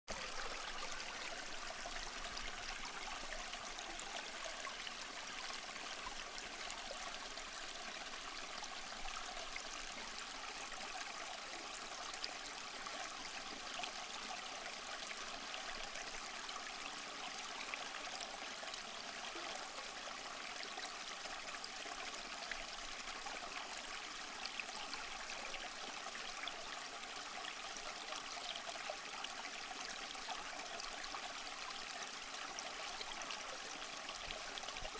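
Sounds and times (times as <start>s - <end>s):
stream trickling over stones: 0.1s - 34.9s.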